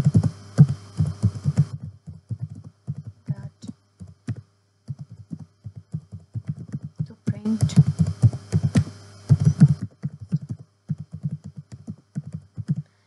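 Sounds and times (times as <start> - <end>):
computer keyboard typing: 0.0 - 12.9.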